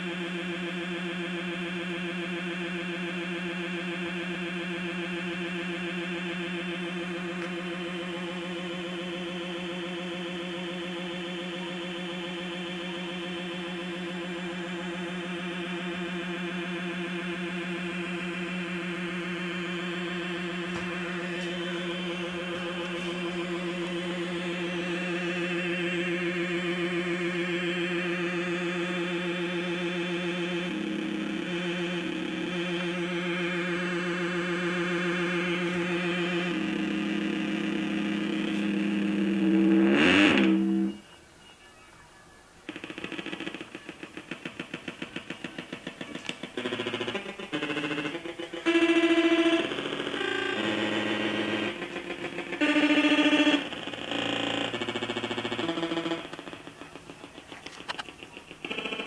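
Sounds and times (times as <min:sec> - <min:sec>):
warbling electronic buzzing drone: 0:00.0 - 0:41.2, 0:42.6 - 0:59.0.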